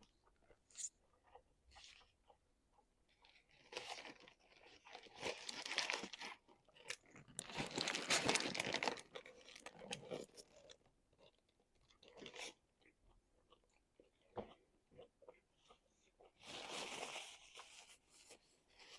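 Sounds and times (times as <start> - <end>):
person chewing crunchy food: 0.0 - 18.9.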